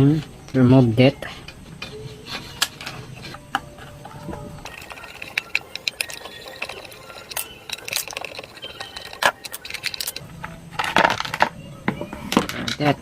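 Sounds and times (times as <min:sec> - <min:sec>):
small parts and tools clinking: 0:00.0 - 0:13.0.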